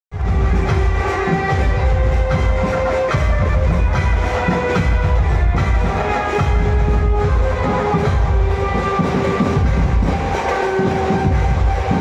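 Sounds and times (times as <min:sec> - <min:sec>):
loud bass-heavy music: 0:00.1 - 0:12.0.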